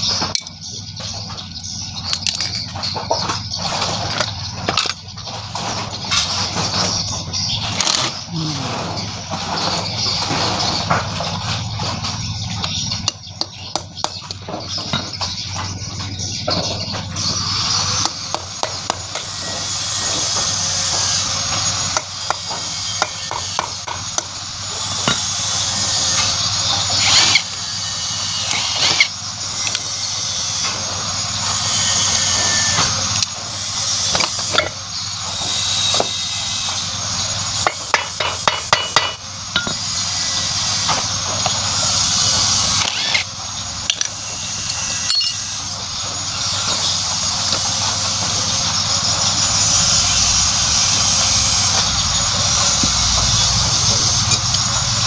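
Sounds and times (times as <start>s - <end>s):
power tool whining: 0.0s - 55.0s.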